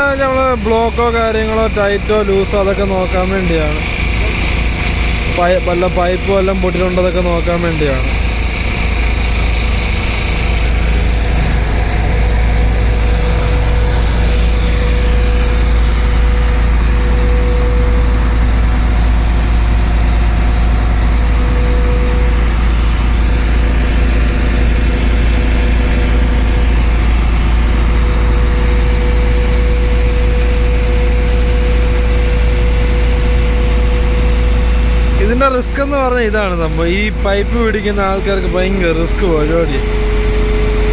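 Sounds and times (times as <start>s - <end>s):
concrete pump truck running: 0.0s - 40.9s.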